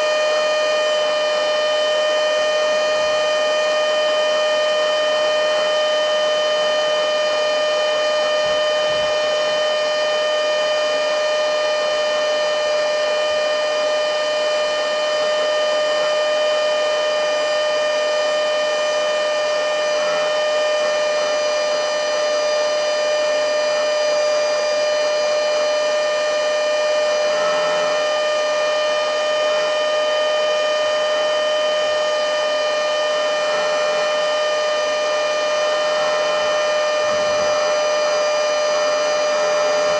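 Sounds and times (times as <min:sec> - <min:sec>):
mini vacuum cleaner whining: 0:00.0 - 0:39.9.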